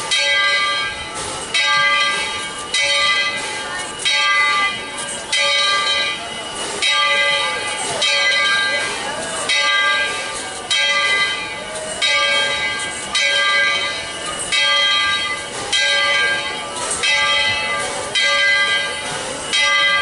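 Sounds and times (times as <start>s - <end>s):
locomotive bell ringing: 0.0s - 20.0s.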